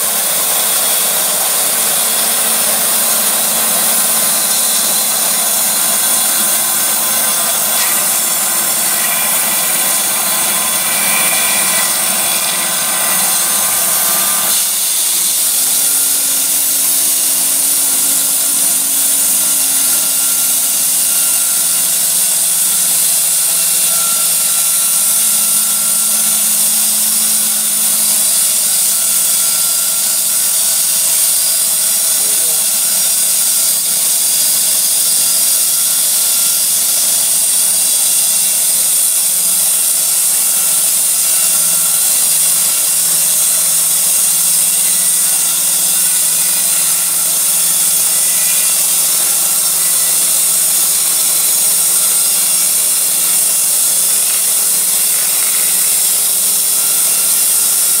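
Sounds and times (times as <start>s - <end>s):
bandsaw blade sawing through log: 0.0s - 58.0s.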